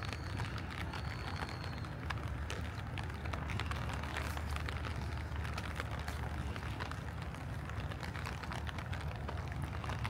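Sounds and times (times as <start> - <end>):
light rain pattering: 0.0 - 10.0
low steady rumble: 0.0 - 10.0.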